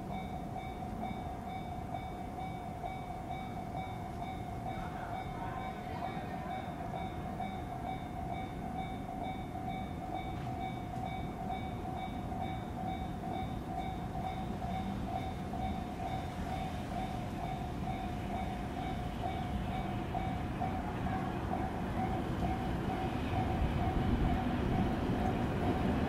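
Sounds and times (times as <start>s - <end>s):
crossing warning bell dinging: 0.0s - 26.0s.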